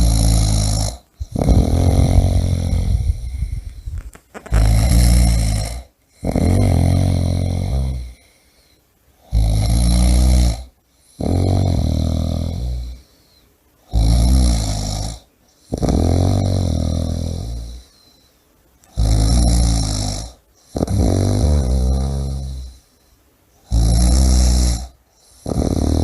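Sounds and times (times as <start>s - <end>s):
person snoring heavily: 0.0s - 8.5s, 9.2s - 13.2s, 13.8s - 18.0s, 18.9s - 22.9s, 23.6s - 26.0s.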